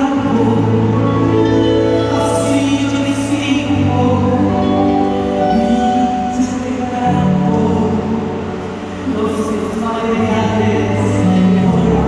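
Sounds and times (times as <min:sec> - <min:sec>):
string orchestra playing slow chords: 0:00.0 - 0:12.0.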